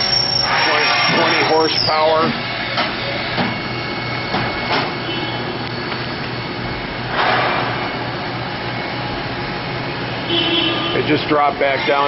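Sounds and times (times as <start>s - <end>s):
machine hum with thin whine: 0.0s - 12.0s.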